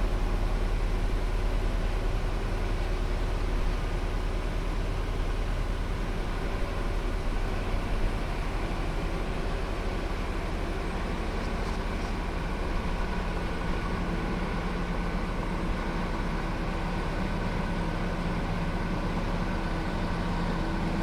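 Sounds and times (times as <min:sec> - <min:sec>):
forestry mulcher engine drone: 0:00.0 - 0:21.0.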